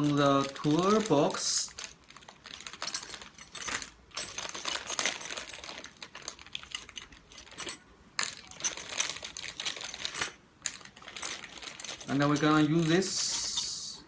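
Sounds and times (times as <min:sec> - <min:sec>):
small screws clicking and clattering: 0:00.0 - 0:13.9.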